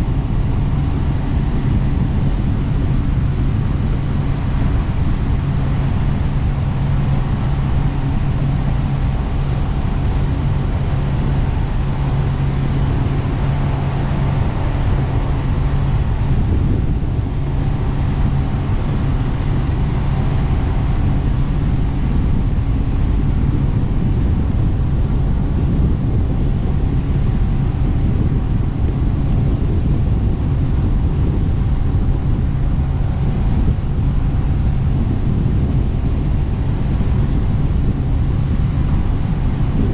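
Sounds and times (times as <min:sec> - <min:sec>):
jet boat engine running: 0:00.0 - 0:39.9.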